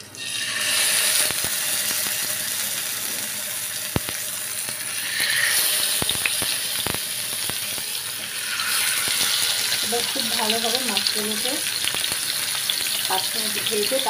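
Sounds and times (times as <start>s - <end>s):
fish sizzling in hot oil: 0.1s - 14.0s.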